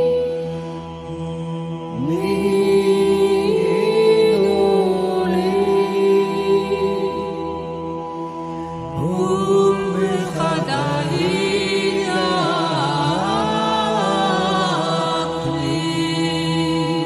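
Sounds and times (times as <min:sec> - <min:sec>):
slow long-held music notes: 0:00.0 - 0:17.0.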